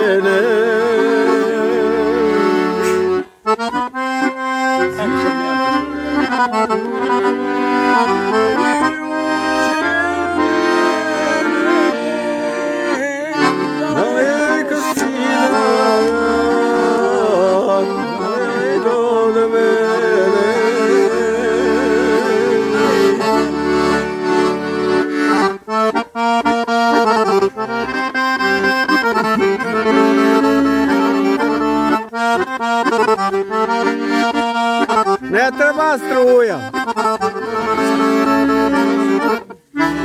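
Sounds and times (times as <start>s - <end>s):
piano accordion folk tune: 0.0s - 40.0s.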